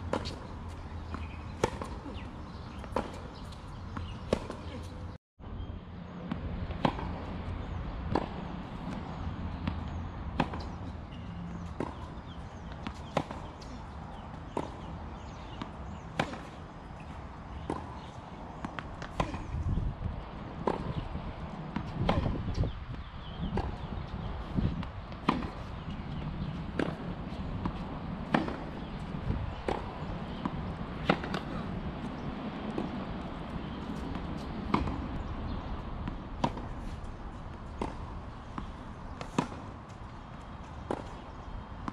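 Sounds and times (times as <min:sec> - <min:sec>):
tennis ball hit and bouncing: 0:00.0 - 0:04.9, 0:06.2 - 0:19.7, 0:20.4 - 0:41.9.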